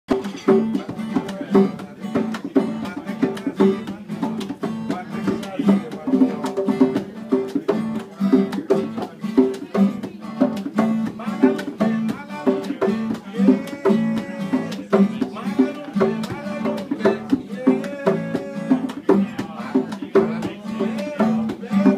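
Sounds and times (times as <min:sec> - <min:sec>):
acoustic guitar strumming: 0:00.1 - 0:21.9.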